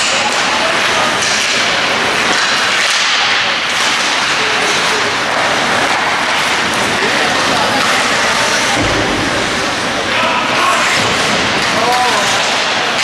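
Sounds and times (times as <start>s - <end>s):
hockey sticks and puck knocking: 0.0s - 13.0s
noisy hockey rink: 0.0s - 13.0s.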